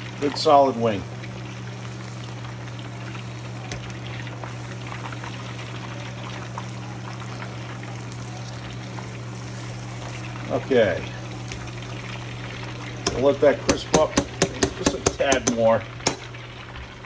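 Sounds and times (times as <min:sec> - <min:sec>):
oil bubbling and sizzling: 0:00.0 - 0:17.0.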